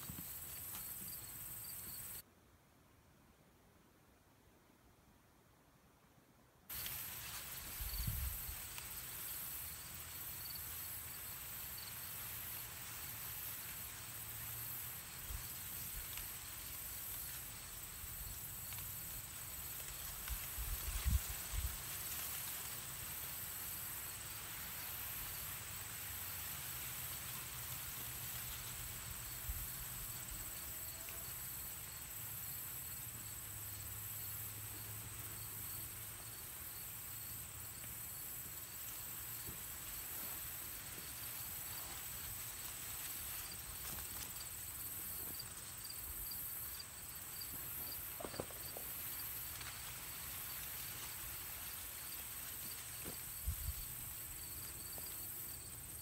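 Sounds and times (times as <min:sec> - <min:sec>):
insects trilling: 0:00.0 - 0:02.2, 0:06.7 - 0:56.0.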